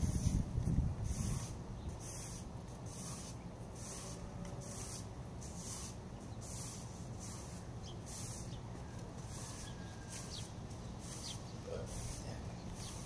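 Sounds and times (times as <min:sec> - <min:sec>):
broom sweeping tiled paving: 0:00.0 - 0:13.0.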